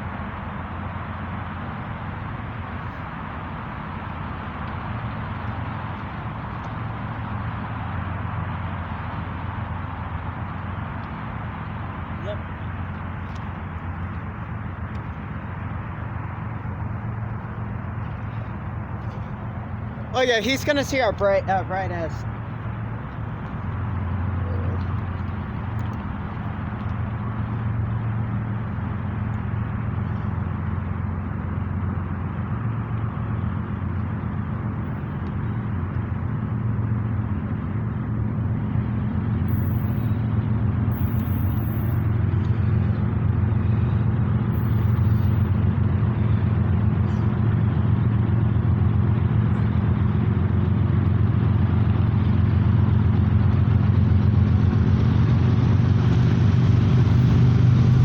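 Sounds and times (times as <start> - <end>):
locomotive diesel engines droning: 0.0 - 58.0.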